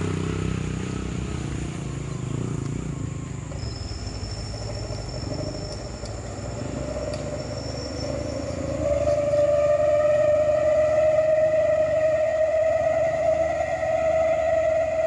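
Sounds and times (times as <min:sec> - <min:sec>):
truck engine rumbling: 0:00.0 - 0:15.0
thin steady whine: 0:01.1 - 0:15.0.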